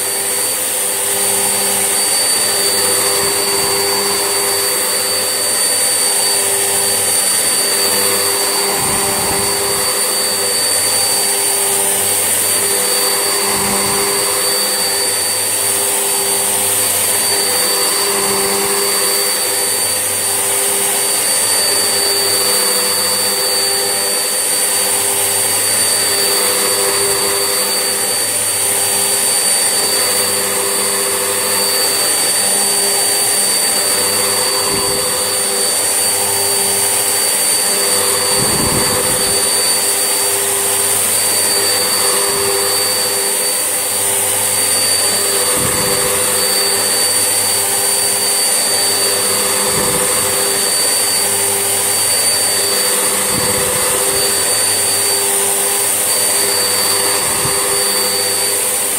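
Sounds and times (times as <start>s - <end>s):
vacuum cleaner motor whine: 0.0s - 58.9s.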